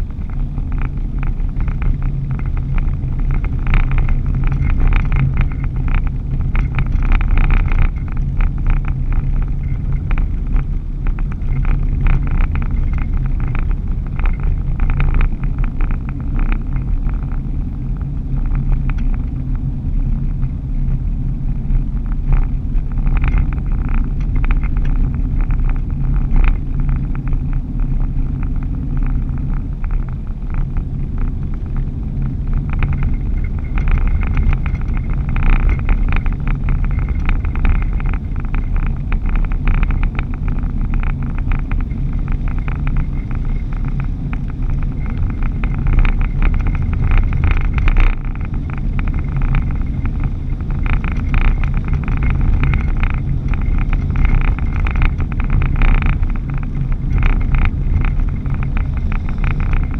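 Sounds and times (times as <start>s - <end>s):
engine and road rumble: 0.0s - 59.9s
rattling ticks: 0.0s - 59.9s.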